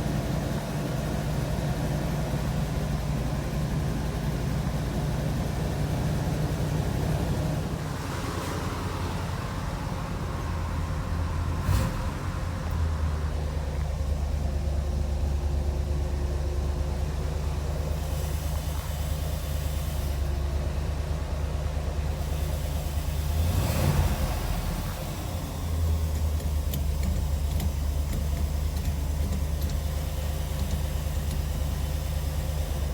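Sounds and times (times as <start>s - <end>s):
car engine idling with rattle: 0.0s - 32.9s.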